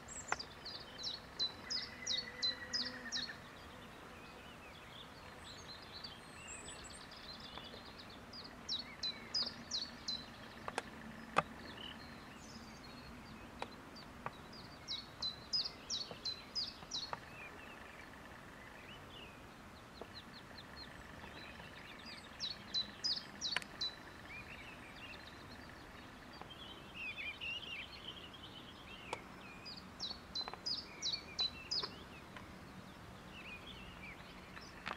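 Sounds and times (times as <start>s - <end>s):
bird chirps: 0.0s - 34.9s.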